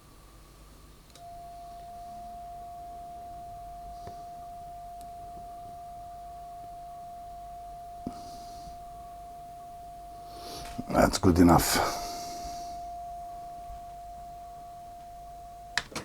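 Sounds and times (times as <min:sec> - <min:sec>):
steady test tone: 0:00.7 - 0:16.0.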